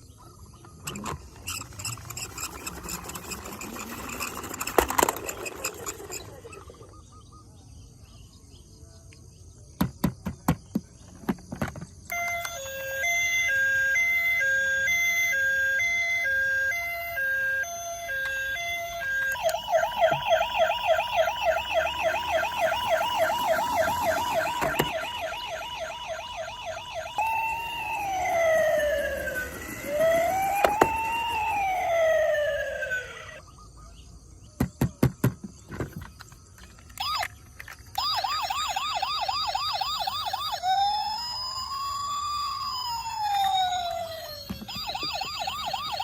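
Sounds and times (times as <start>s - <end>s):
toy siren cycling patterns: 0.7s - 7.2s, 12.1s - 33.5s, 36.9s - 46.0s.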